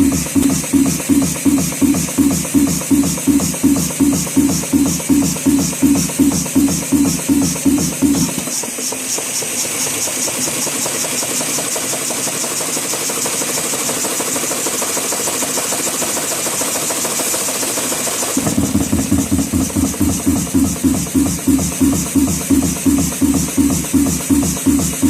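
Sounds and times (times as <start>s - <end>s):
air compressor running: 0.0s - 15.5s, 16.6s - 25.0s.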